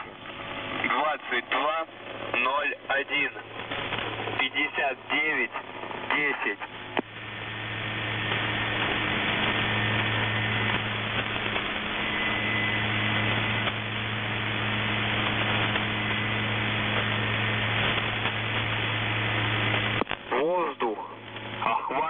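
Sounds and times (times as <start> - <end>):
low mains hum: 0.0 - 22.0
radio static hiss: 0.0 - 22.0.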